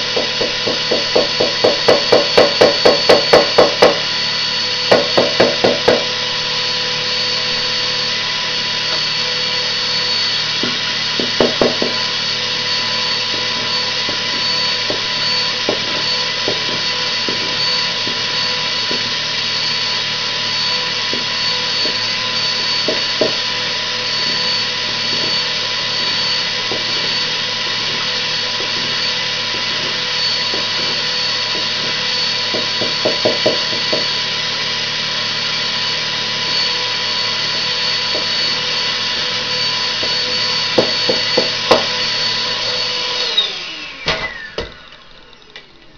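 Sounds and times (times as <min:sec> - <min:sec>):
vacuum cleaner whining: 0:00.0 - 0:45.9.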